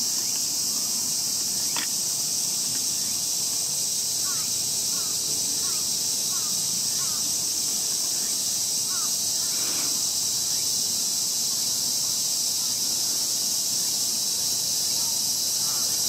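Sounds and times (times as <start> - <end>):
harsh insect call: 0.0 - 16.0
insect chorus drone: 0.0 - 16.0.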